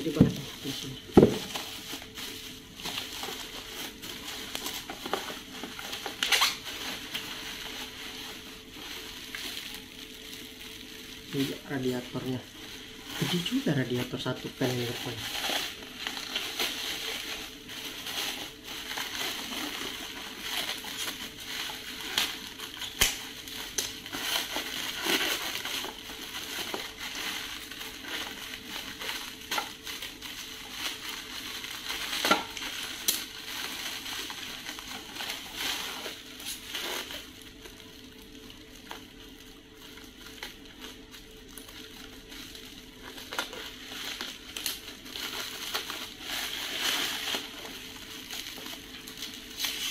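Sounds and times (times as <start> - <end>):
plastic packaging crinkling: 0.0 - 49.9.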